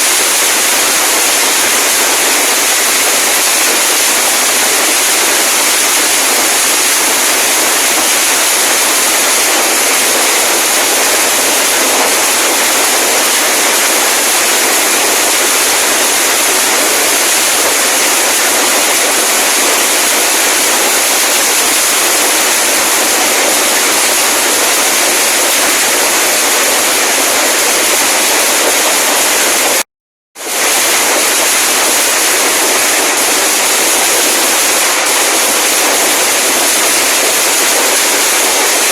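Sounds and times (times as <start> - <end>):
firecrackers crackling: 0.0 - 29.8, 30.4 - 38.9.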